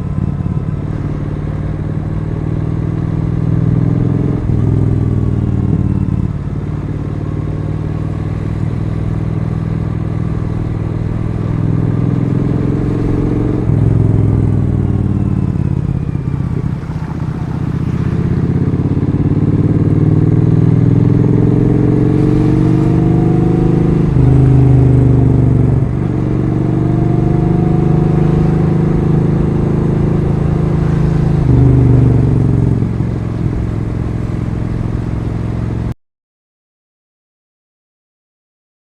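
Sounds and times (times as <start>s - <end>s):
motorcycle engine shifting gears: 0.0s - 35.8s.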